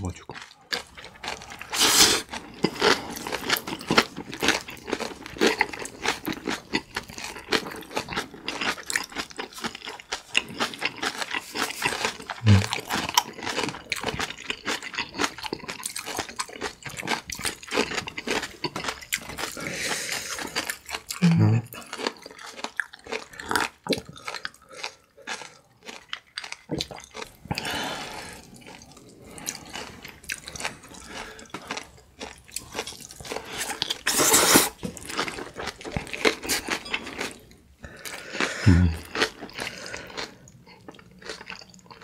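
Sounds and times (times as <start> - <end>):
wet chewing of noodles: 0.3 - 42.0.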